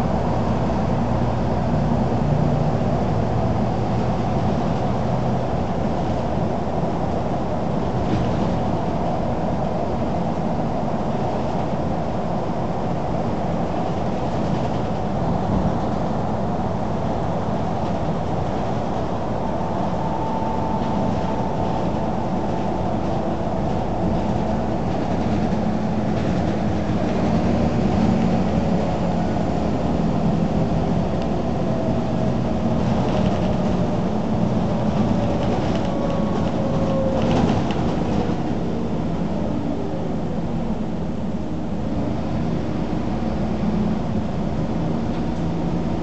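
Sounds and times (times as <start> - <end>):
bus engine and road noise: 0.0 - 46.0.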